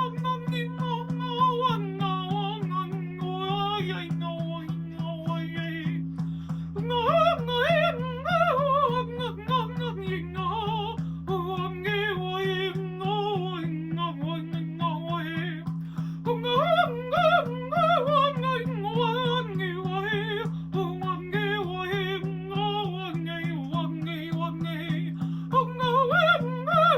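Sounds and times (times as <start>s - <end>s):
woman singing wordless tones: 0.0s - 6.0s, 6.8s - 26.9s.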